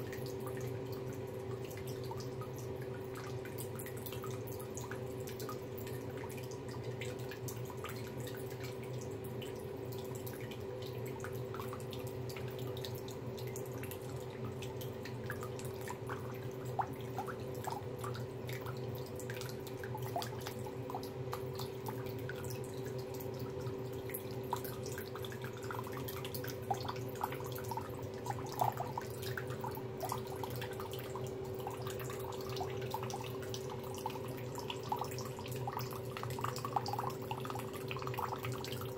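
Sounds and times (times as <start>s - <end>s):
tap water running into sink: 0.0s - 38.9s
water drips and splashes: 0.0s - 38.9s.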